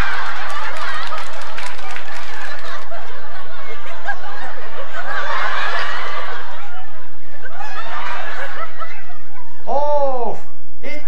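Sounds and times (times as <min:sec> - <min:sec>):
audience laughing: 0:00.0 - 0:09.7.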